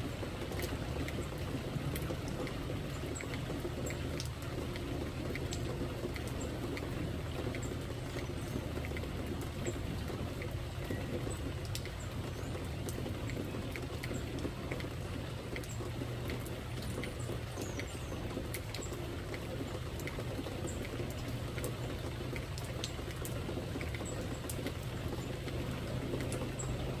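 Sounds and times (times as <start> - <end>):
sharp drips: 0.0 - 27.0
steady rain falling: 0.0 - 27.0.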